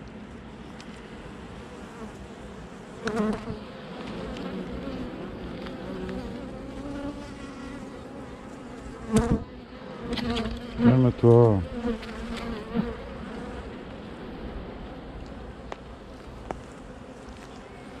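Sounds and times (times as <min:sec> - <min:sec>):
bees buzzing: 0:00.9 - 0:18.0.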